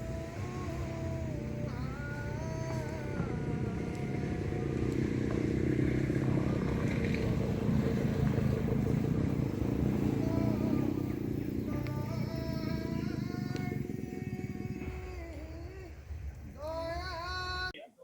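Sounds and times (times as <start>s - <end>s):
motor vehicle engine rumble: 0.0s - 17.7s.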